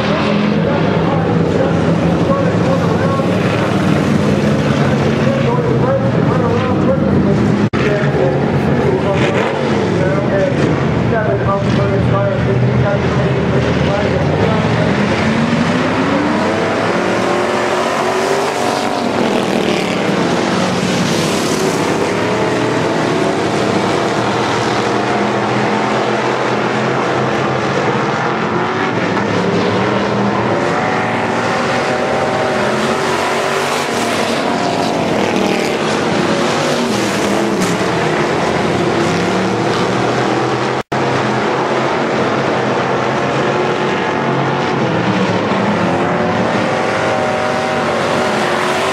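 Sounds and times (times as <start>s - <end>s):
race car engines: 0.0s - 48.9s.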